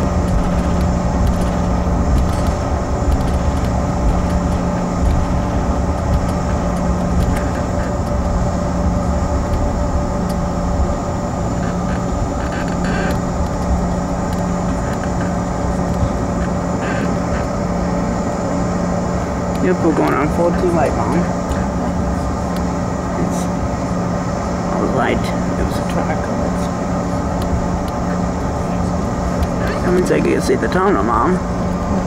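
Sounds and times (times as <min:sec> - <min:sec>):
jet engines droning in cabin: 0:00.0 - 0:32.0.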